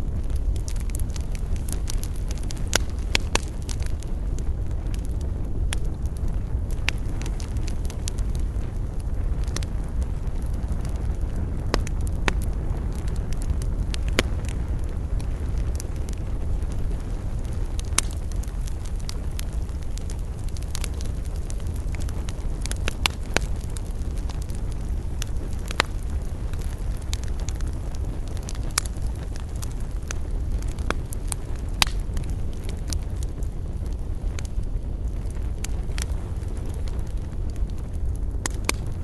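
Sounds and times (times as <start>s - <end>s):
campfire crackling and popping: 0.0s - 39.0s
low rumble: 0.0s - 39.0s.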